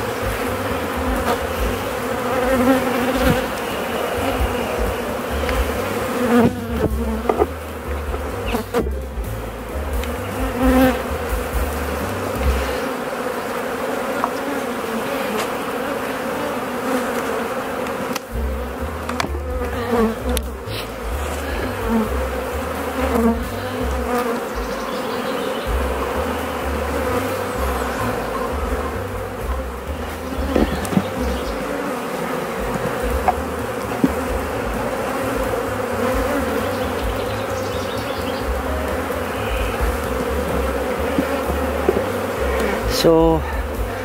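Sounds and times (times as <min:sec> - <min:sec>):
honeybees buzzing: 0:00.0 - 0:44.0.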